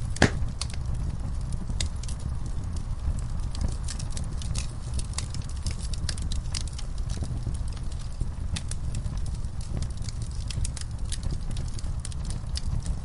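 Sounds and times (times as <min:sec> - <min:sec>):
low rumble of flames: 0:00.0 - 0:13.0
wood fire popping and snapping: 0:00.0 - 0:13.0.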